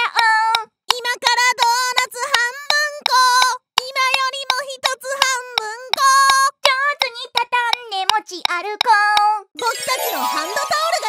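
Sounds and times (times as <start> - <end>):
high-pitched voice singing: 0.0 - 11.0.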